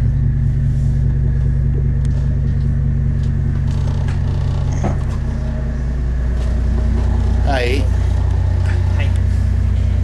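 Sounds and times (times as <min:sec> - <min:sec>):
boat engines idling: 0:00.0 - 0:10.0.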